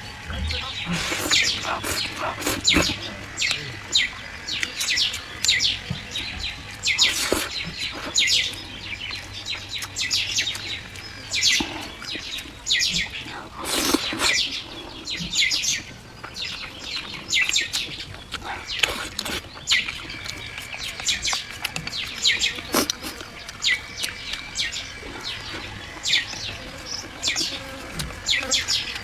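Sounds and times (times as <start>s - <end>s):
person chewing food: 0.0s - 29.0s
small birds chirping: 0.0s - 29.0s.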